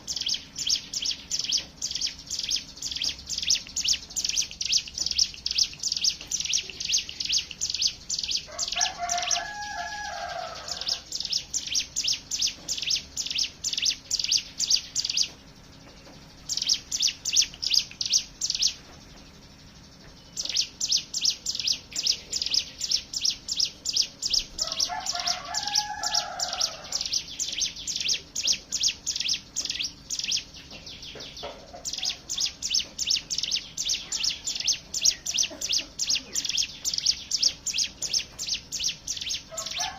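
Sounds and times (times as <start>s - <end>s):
lower slurred bird call: 0.0s - 15.4s, 19.7s - 39.9s
birds rattling high chips: 0.0s - 39.9s.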